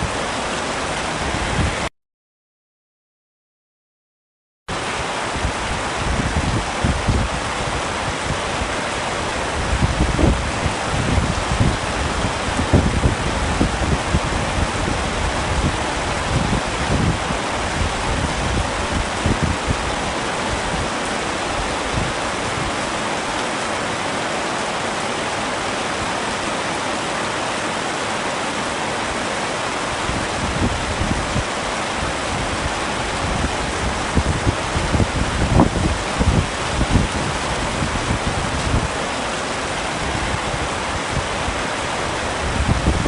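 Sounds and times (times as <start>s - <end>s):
heavy rain on a tent: 0.0s - 1.9s, 4.7s - 43.0s
low rumbling wind gusts: 0.0s - 1.9s, 4.7s - 43.0s.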